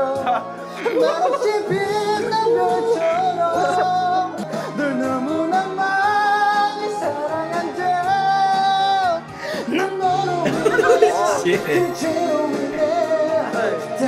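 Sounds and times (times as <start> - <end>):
karaoke backing track: 0.0 - 14.0
person singing into microphone: 0.0 - 14.0.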